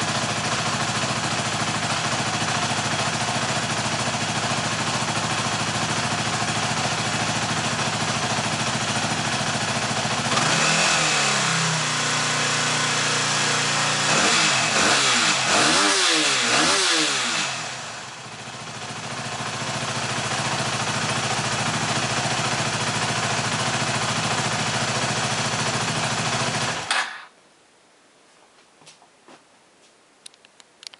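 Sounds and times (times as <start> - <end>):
motorcycle engine idling and revving: 0.0 - 27.2.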